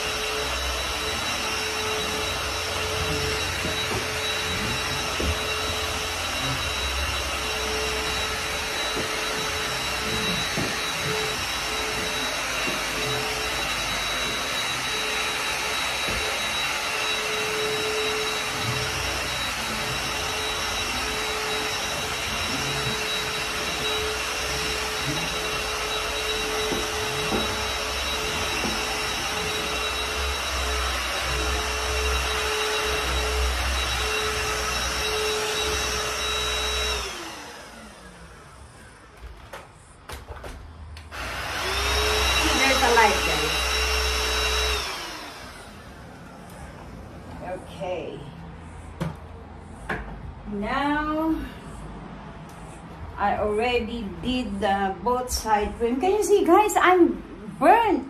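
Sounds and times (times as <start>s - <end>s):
vacuum cleaner running on carpet: 0.0s - 40.0s, 41.0s - 51.8s, 52.6s - 58.0s.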